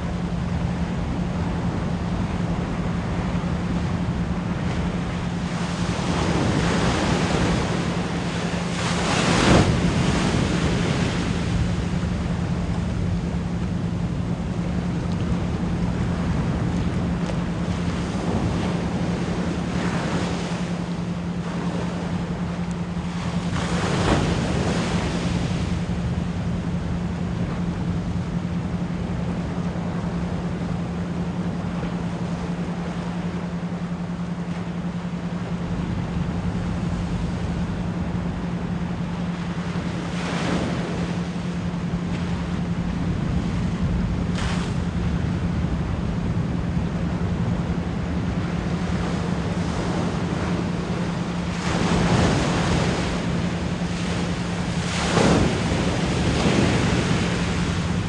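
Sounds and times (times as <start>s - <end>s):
ocean waves: 0.0s - 58.0s
steady pure tone: 0.0s - 58.0s.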